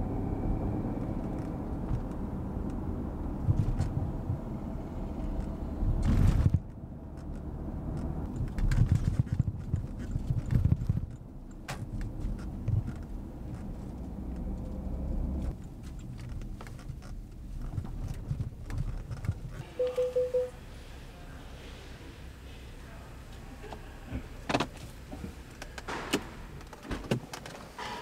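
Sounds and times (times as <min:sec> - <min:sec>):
engine and road rumble: 0:00.0 - 0:28.0.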